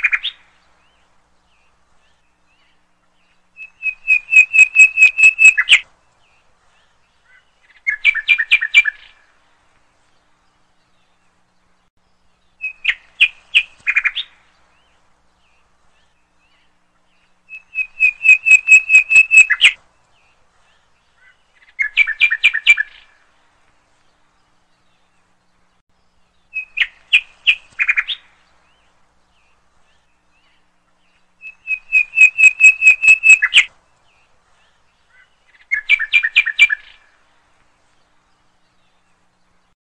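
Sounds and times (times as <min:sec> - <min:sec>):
bird chirping: 0:00.0 - 0:09.4, 0:10.0 - 0:23.3, 0:23.9 - 0:39.8.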